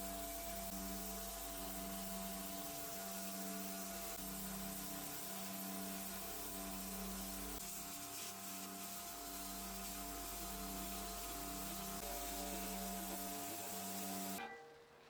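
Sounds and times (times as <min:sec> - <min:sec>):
small electric motor humming: 0:00.0 - 0:14.4.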